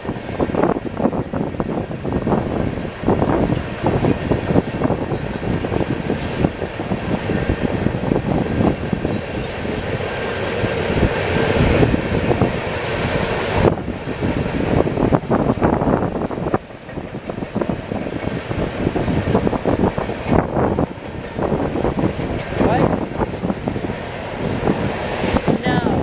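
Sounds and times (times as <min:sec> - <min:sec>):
freight train clattering on rails: 0:00.0 - 0:26.0.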